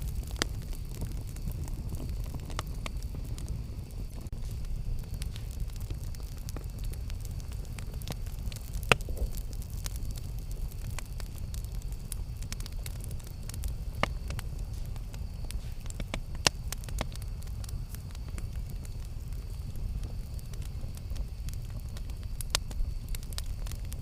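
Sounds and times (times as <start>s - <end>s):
campfire burning rumble: 0.0s - 24.0s
fire crackles and pops: 0.0s - 24.0s.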